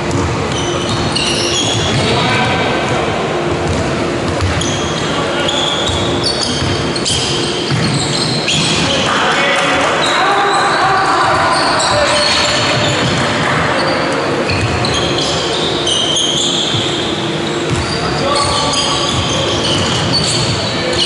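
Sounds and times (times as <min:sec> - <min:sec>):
trainers squeaking on floor: 0:00.5 - 0:02.2, 0:04.4 - 0:09.0, 0:10.0 - 0:21.0.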